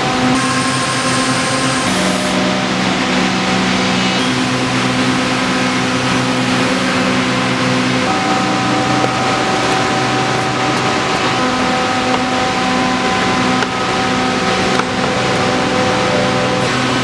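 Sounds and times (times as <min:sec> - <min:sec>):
humming machine tones: 0:00.0 - 0:17.0
workshop machinery rushing: 0:00.0 - 0:17.0.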